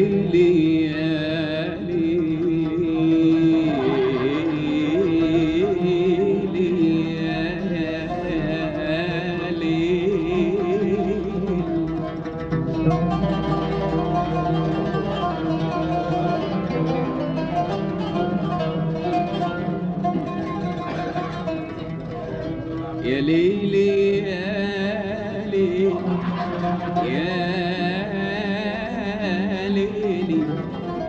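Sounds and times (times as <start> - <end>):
person singing long sliding notes: 0.0 - 22.0, 22.9 - 31.0
plucked strings music: 0.0 - 31.0.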